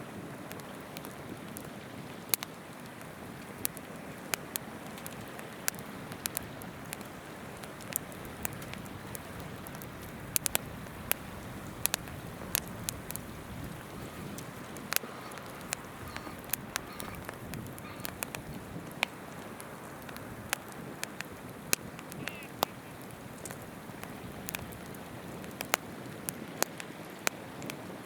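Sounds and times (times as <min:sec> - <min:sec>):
babbling river: 0:00.0 - 0:28.0
campfire crackling and popping: 0:00.0 - 0:28.0.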